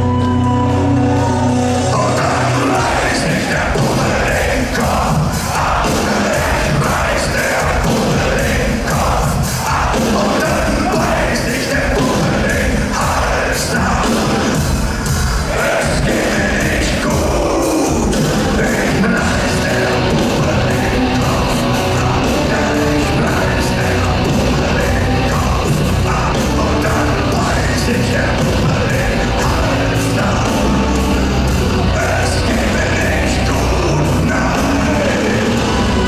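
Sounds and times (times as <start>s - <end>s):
live heavy metal band: 0.0s - 36.0s.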